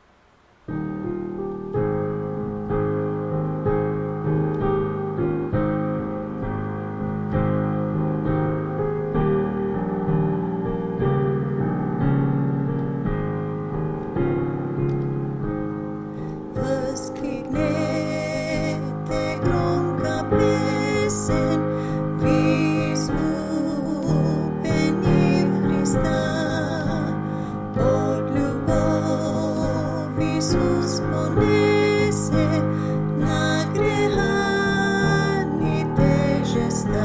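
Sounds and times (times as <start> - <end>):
piano playing slow hymn chords: 0.0 - 37.0.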